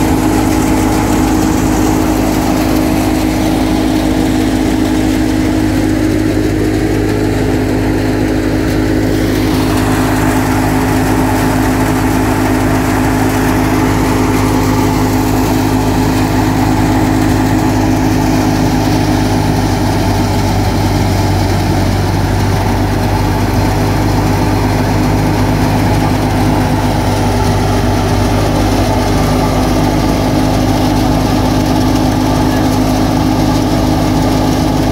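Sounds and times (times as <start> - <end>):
thresher whirring rush: 0.0 - 34.9
tractor diesel engine running: 0.0 - 34.9.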